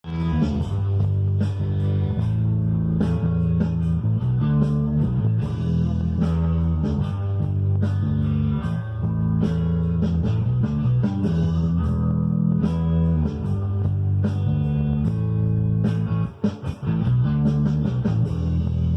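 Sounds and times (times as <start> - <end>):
bass: 0.0 - 18.9
rock guitar: 0.0 - 18.9.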